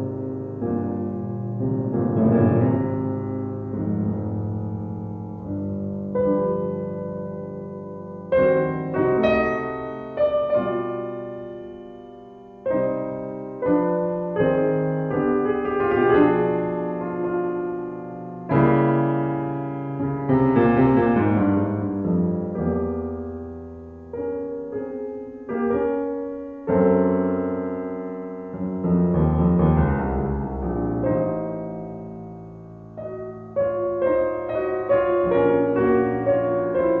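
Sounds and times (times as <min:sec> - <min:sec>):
solo piano music: 0:00.0 - 0:37.0.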